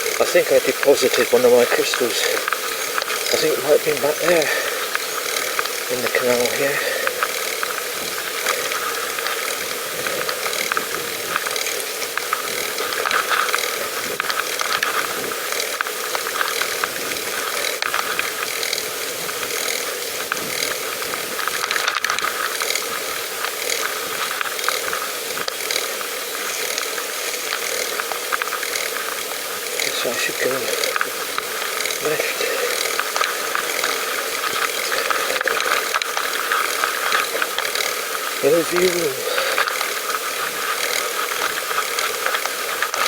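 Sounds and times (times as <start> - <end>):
bicycle drivetrain clicking and rattling: 0.0 - 43.0.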